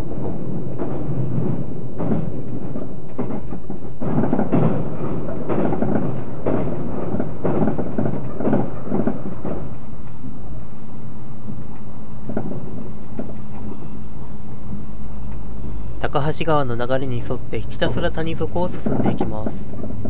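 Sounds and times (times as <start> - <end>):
steady low hum: 0.0 - 20.0
train wheels rumbling on rail: 0.0 - 20.0.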